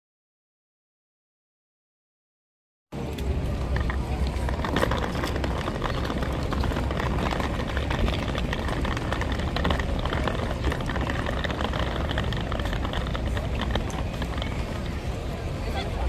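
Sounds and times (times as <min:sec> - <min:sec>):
busy square noise: 0:02.9 - 0:16.0
wind rumble on microphone: 0:03.0 - 0:16.0.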